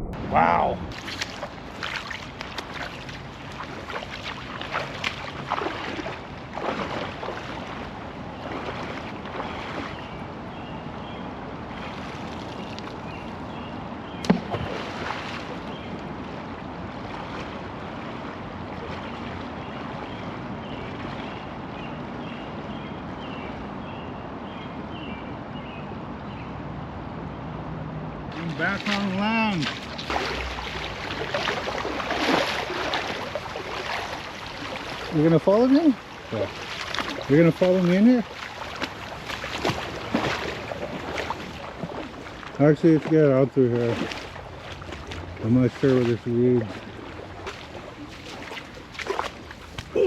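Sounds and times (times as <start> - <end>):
splashing through water: 0.0 - 10.6, 11.7 - 13.4, 14.1 - 21.6, 28.3 - 50.0
river water running: 0.0 - 50.0.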